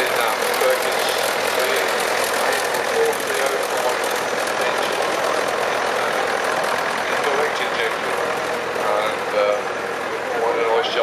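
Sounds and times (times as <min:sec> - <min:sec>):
tractor diesel engine running: 0:00.0 - 0:11.0
tractor engines idling: 0:00.0 - 0:11.0.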